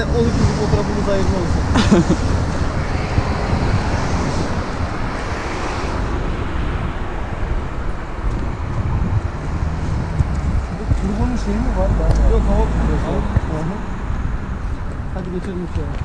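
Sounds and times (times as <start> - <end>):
traffic noise: 0.0 - 16.0
wind on microphone: 0.0 - 16.0.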